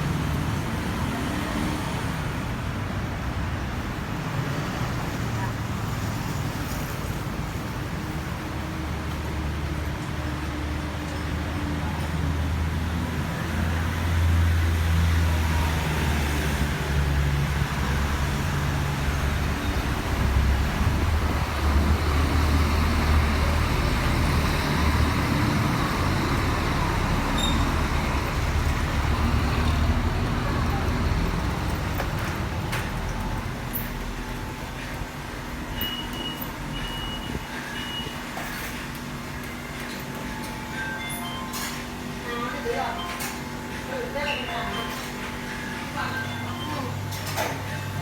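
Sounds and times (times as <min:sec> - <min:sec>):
heavy engine rumbling: 0:00.0 - 0:48.0
road traffic: 0:00.0 - 0:48.0.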